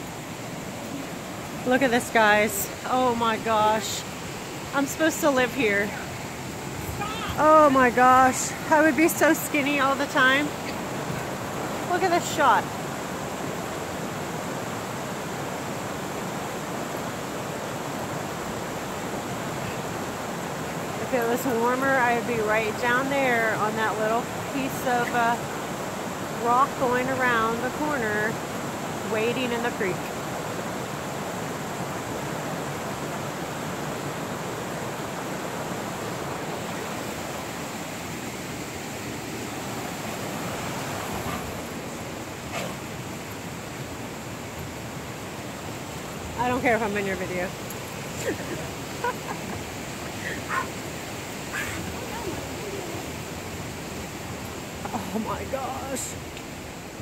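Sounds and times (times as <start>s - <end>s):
mountain creek rushing: 0.0s - 57.0s.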